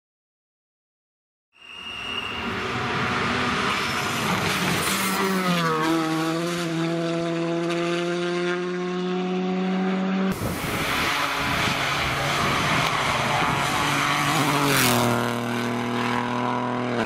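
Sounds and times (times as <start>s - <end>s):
rally car engine passing: 2.0s - 17.0s.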